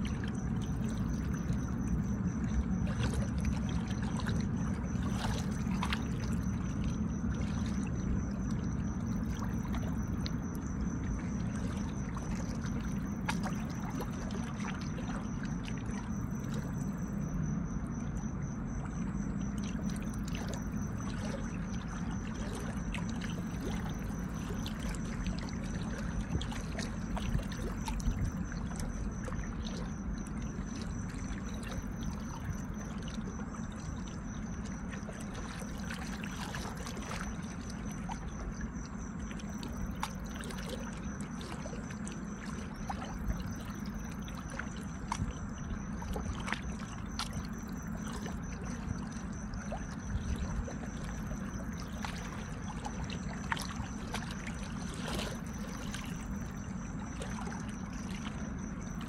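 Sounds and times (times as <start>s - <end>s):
drips and splashes: 0.0s - 59.0s.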